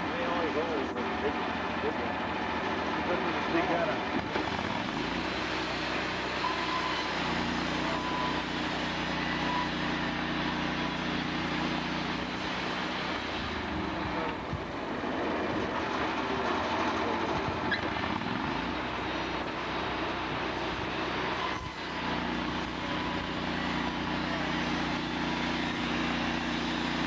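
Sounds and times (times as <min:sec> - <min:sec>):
sawmill machinery drone: 0:00.0 - 0:27.0.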